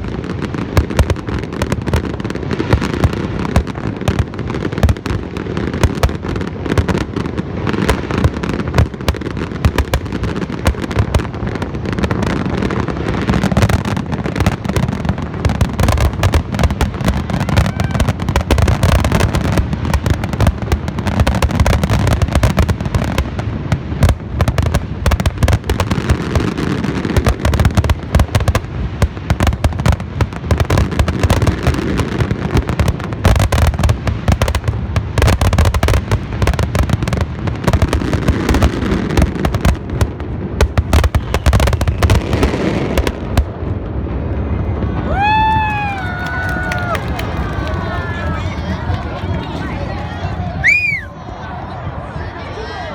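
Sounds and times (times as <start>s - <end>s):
fireworks booming and crackling: 0.0s - 51.0s.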